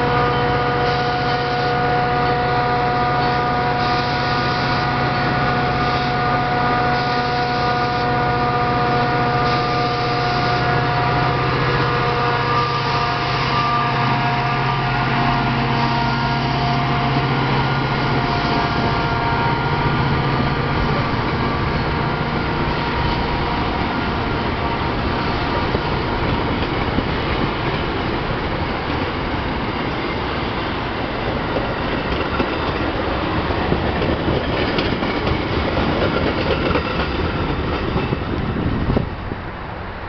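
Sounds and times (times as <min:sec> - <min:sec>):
diesel locomotive engine whine: 0:00.0 - 0:40.0.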